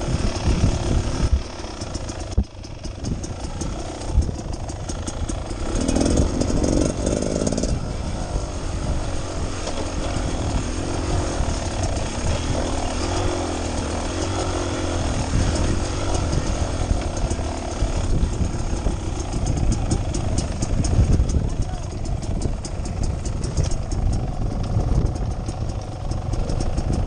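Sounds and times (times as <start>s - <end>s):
dirt bike engine running: 0.0s - 27.0s
clicks and rattles over rocks: 0.2s - 7.8s, 9.2s - 27.0s.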